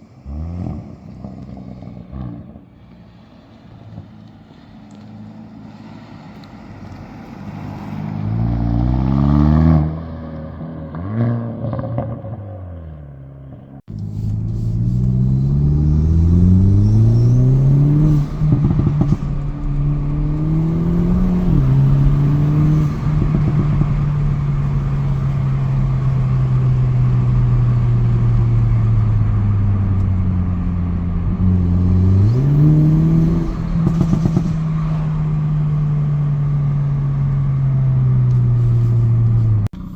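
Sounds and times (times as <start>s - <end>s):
car engine accelerating: 0.0s - 39.9s
exhaust crackle: 0.2s - 9.2s, 13.9s - 39.9s.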